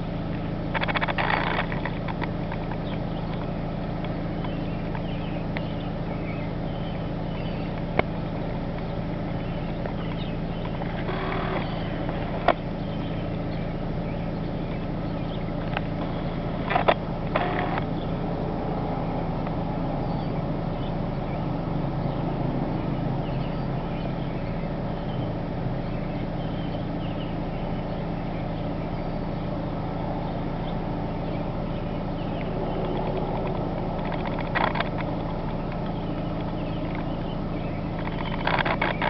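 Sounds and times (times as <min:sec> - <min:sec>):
car engine humming: 0:00.0 - 0:39.0.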